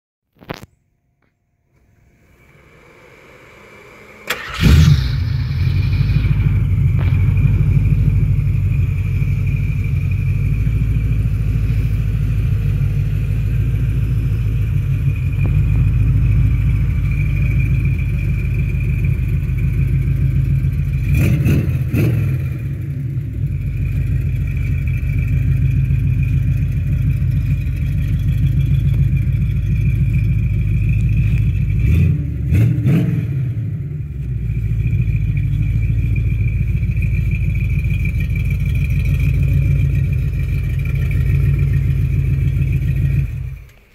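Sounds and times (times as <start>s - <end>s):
engine starting and idling: 1.8s - 33.2s, 34.3s - 43.9s.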